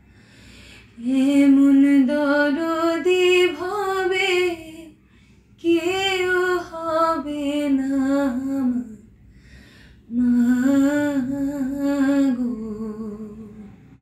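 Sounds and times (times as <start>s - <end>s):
woman singing slow song: 0.8s - 5.0s, 5.6s - 9.1s, 10.0s - 13.9s.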